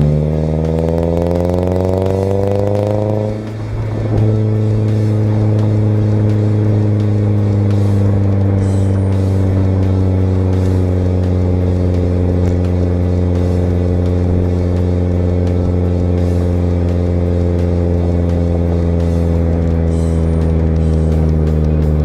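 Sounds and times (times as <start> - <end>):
car engine exhaust note: 0.0 - 22.0.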